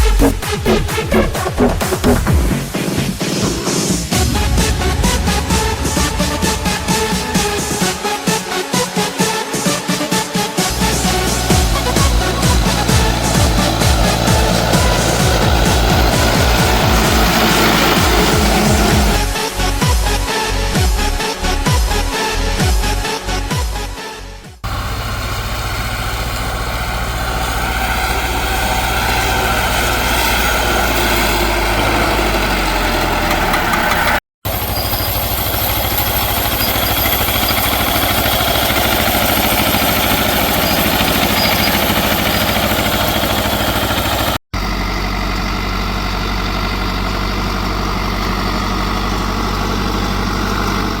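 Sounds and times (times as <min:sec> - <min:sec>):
tractor diesel engines running: 0:03.2 - 0:21.7, 0:24.6 - 0:51.0.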